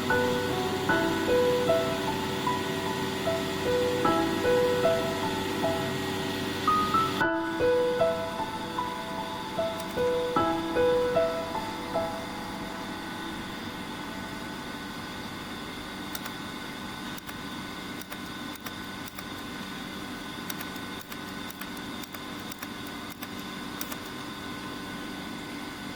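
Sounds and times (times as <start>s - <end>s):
steady electrical hum: 0.0s - 25.9s.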